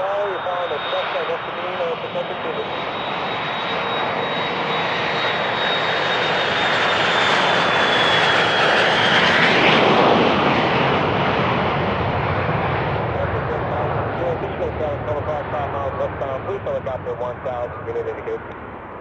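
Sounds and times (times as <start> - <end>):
jet aircraft passing: 0.0 - 19.0.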